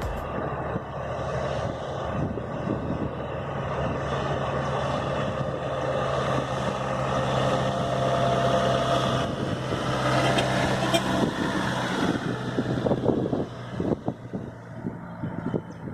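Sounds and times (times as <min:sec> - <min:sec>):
vehicle engine humming: 0:00.0 - 0:15.9.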